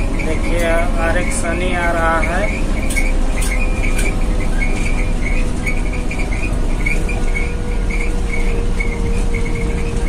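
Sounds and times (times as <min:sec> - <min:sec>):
constant hum: 0:00.0 - 0:10.0
high-pitched squeal: 0:00.0 - 0:10.0
truck engine and tyres rumbling: 0:00.0 - 0:10.0.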